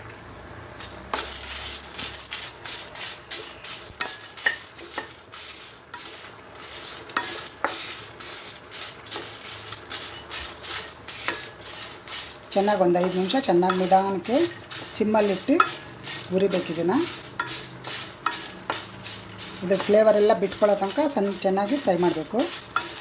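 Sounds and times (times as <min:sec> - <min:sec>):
seeds rattling in a pan: 0:00.8 - 0:23.0
wooden spatula scraping a pan: 0:00.8 - 0:23.0.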